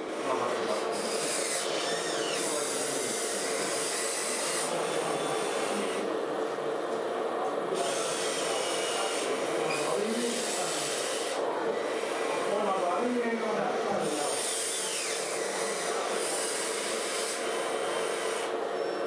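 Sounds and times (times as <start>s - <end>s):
small electric motor whine: 0.0s - 6.1s, 7.8s - 19.0s.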